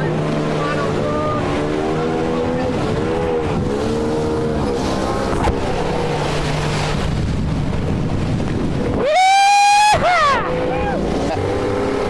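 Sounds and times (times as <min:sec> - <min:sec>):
outboard engine at high speed: 0:00.0 - 0:12.0
water rushing against hull: 0:00.0 - 0:12.0.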